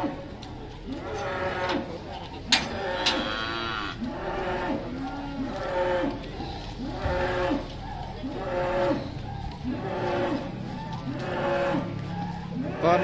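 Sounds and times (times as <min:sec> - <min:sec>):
cattle mooing: 0:00.9 - 0:13.0.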